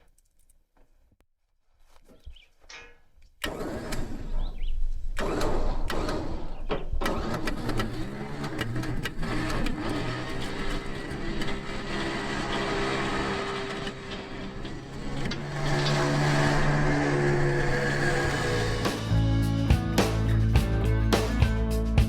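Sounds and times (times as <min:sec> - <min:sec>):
vehicle engine starting and running: 0:03.4 - 0:22.0.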